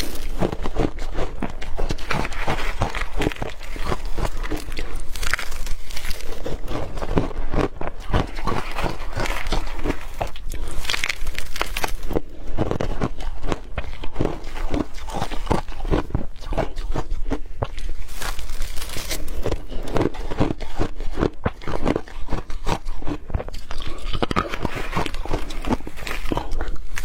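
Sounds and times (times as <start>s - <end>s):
ice crunching being chewed: 0.0s - 27.0s.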